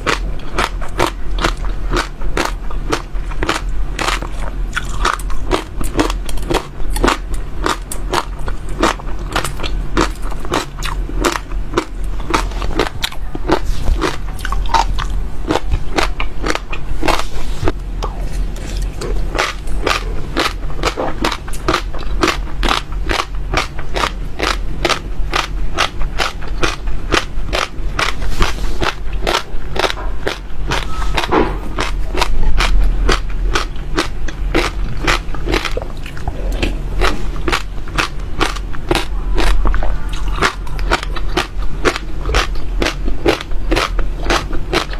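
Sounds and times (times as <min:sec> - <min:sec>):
seeds being chewed: 0:00.0 - 0:44.9.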